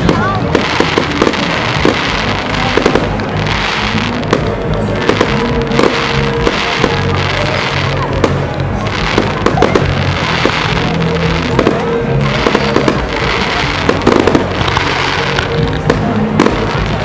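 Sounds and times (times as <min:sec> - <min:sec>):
fireworks bangs and crackling: 0:00.0 - 0:17.0
loud music: 0:00.0 - 0:17.0.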